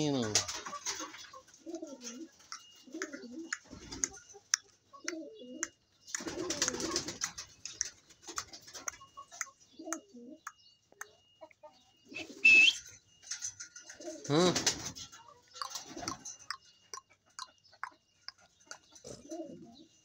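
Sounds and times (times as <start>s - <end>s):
chickens clucking softly: 0.0s - 12.4s, 13.6s - 20.0s.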